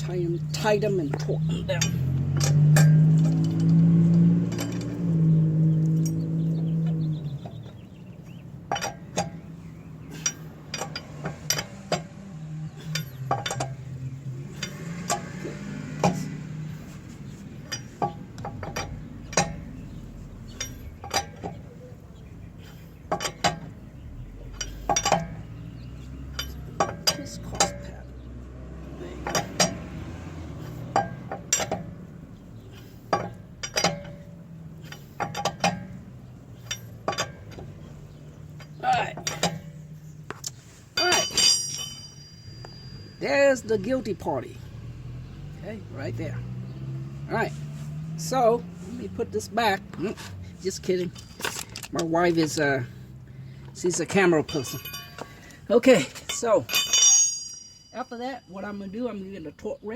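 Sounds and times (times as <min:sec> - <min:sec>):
wrench clinking on lug nuts: 0:00.0 - 0:44.8, 0:48.0 - 0:59.9.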